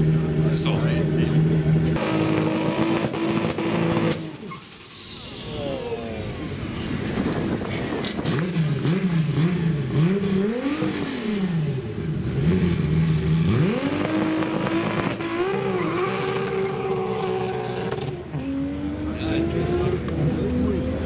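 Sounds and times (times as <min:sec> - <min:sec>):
car engine revving: 0:00.0 - 0:05.1, 0:07.3 - 0:21.0.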